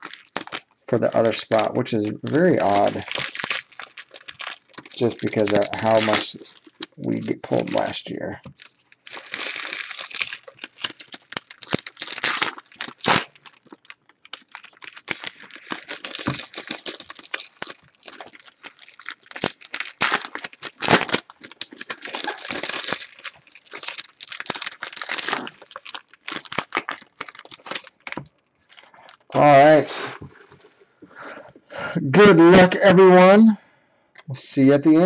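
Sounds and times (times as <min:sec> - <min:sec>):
card wrappers tearing and crinkling: 0:00.0 - 0:30.2.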